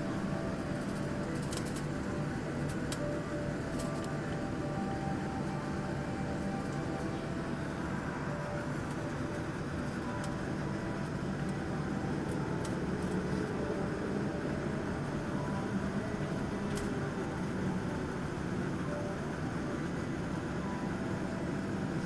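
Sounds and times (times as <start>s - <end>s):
cabin air system hum: 0.0s - 22.0s
jet engines idling: 0.0s - 22.0s.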